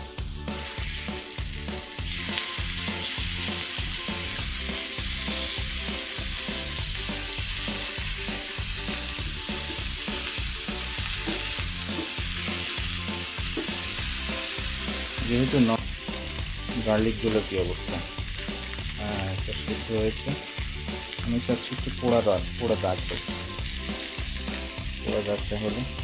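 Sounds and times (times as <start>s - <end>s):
fish sizzling in oil: 0.2s - 26.0s.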